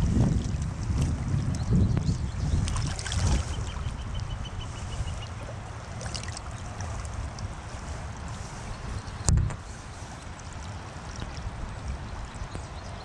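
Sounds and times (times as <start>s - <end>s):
creek water running: 0.0s - 13.0s
wind rumble on microphone: 0.0s - 13.0s.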